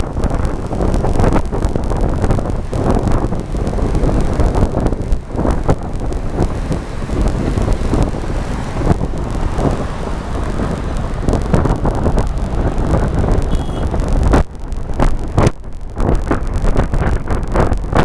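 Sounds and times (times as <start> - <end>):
car road and engine rumble: 0.0 - 18.0
wind buffeting microphone: 0.0 - 18.0.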